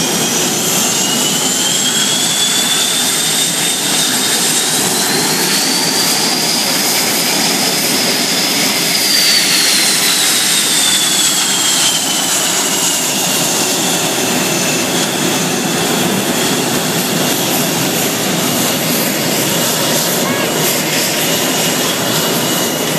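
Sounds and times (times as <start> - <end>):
jet engines running with turbine whine: 0.0 - 22.9.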